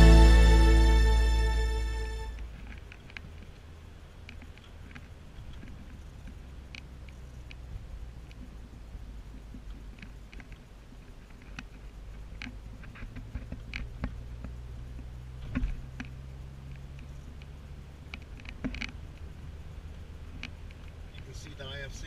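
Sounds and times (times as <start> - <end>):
car engine and road hum: 0.0 - 22.0.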